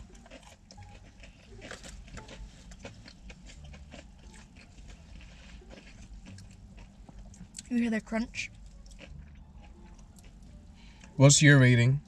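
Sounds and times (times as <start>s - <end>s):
crunchy chewing: 0.0s - 11.4s.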